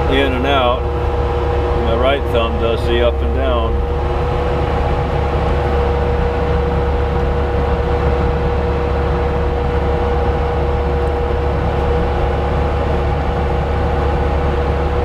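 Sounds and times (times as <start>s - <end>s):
diesel engine running: 0.0s - 15.0s
hydraulic whine: 0.0s - 15.0s.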